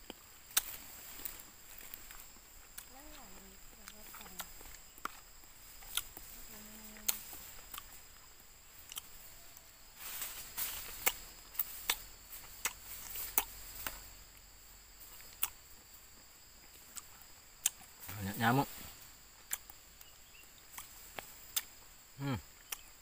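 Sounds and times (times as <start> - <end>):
crunchy chewing: 0.0 - 23.0
high-pitched insect drone: 0.7 - 23.0.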